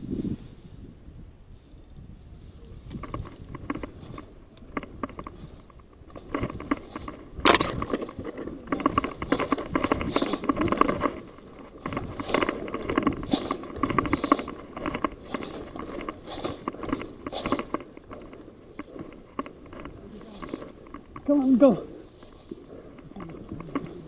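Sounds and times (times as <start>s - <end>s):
rustling through brush: 2.8s - 24.0s.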